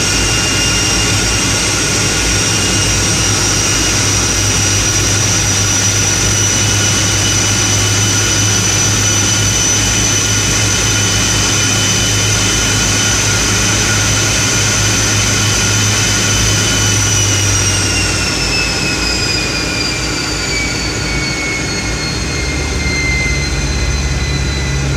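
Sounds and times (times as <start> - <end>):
jet engine whining: 0.0 - 24.9.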